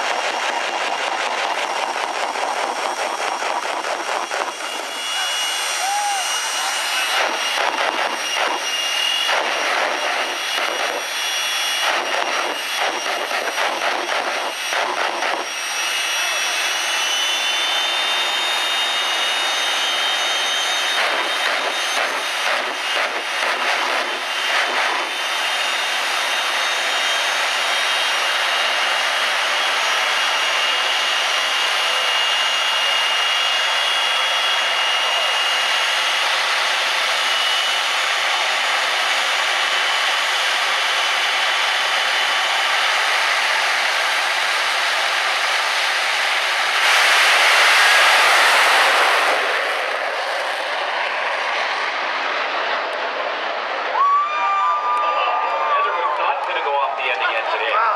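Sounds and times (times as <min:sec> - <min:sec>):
jet engine whine and rush: 0:00.0 - 0:57.9.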